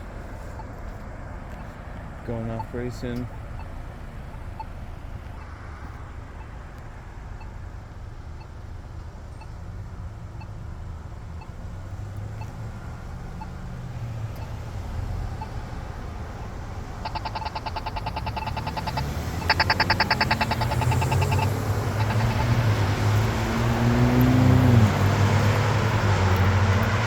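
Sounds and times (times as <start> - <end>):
pedestrian signal ticking: 0.0 - 27.0
road traffic: 0.0 - 27.0.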